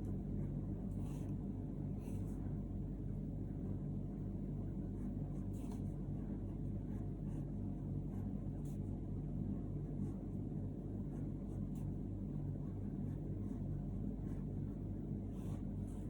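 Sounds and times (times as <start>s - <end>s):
low rumble with pulsing hum: 0.0s - 16.0s.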